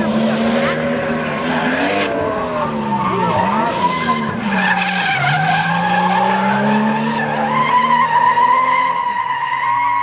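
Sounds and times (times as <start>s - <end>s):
engines revving high: 0.0s - 10.0s.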